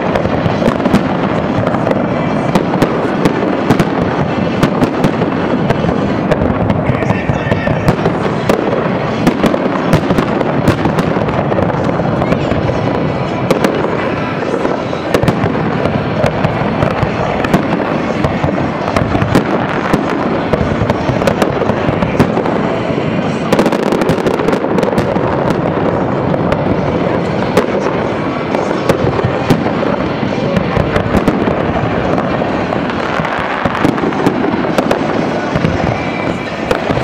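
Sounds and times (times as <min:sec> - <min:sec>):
firework shells bursting: 0:00.0 - 0:37.0
fireworks crackling: 0:00.0 - 0:37.0.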